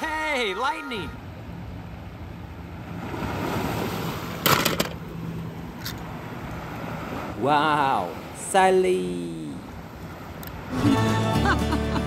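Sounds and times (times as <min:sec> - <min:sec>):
sea surf: 0:00.0 - 0:12.0
wind: 0:00.0 - 0:12.0.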